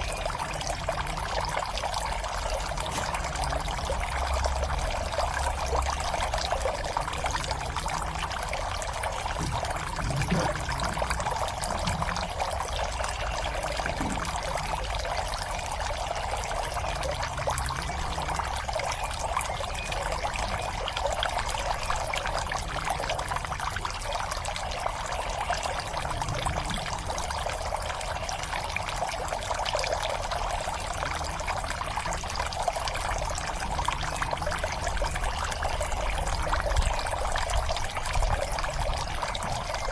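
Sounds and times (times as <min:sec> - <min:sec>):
water pouring into a pond: 0:00.0 - 0:39.9.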